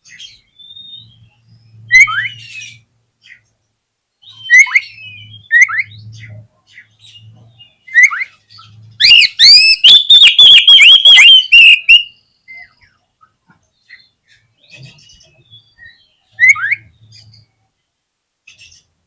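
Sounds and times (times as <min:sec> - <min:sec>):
bird singing whistled notes: 0:00.1 - 0:02.8, 0:04.2 - 0:13.0, 0:13.8 - 0:17.5.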